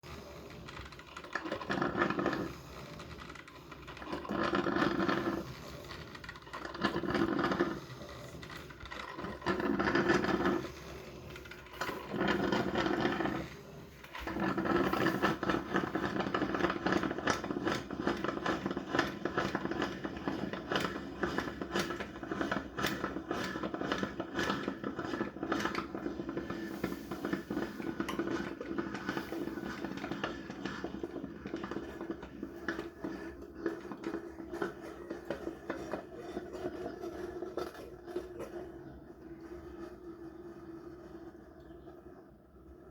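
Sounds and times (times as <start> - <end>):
coffee maker whirring: 0.0 - 42.9.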